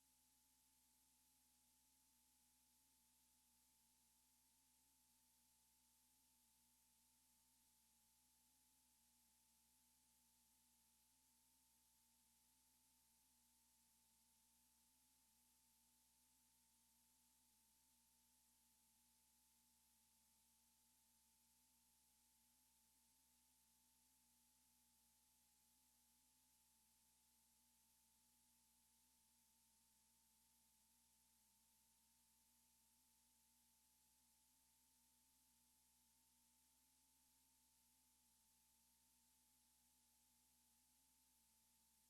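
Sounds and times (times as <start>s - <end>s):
faint steady tone: 0.0s - 42.0s.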